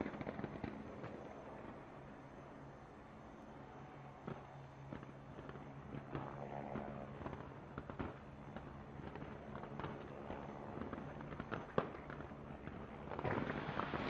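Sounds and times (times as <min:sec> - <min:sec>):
distant fireworks bangs and crackles: 0:00.0 - 0:14.0.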